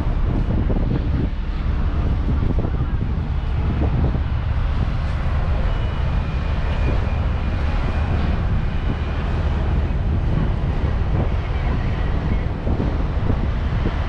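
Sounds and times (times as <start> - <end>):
ship engines rumbling: 0.0 - 14.0
wind on microphone: 0.0 - 14.0.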